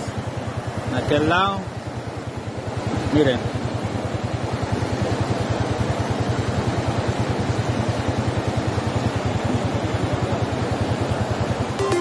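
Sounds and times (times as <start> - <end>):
river floodwater rushing: 1.7 - 12.0.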